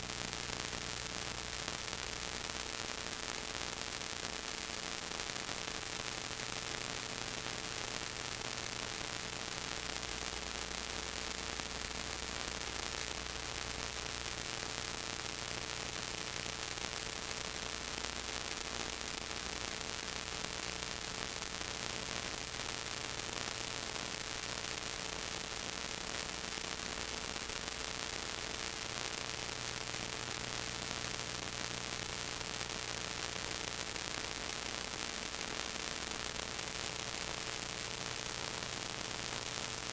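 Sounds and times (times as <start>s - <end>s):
faint hum: 0.0s - 39.9s
steady hiss: 0.0s - 39.9s.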